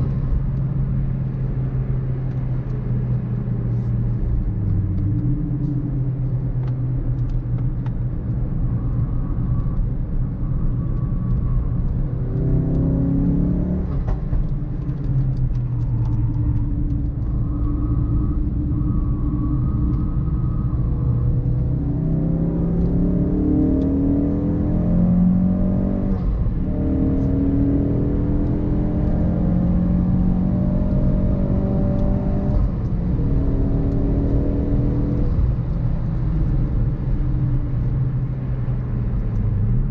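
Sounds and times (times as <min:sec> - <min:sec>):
car engine accelerating and upshifting: 0:00.0 - 0:39.9.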